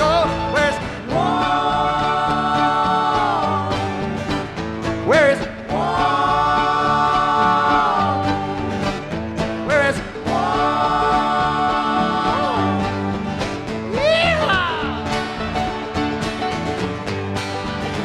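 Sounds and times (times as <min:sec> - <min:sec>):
voices holding sung notes: 0:00.0 - 0:16.0
string band playing: 0:00.0 - 0:18.0.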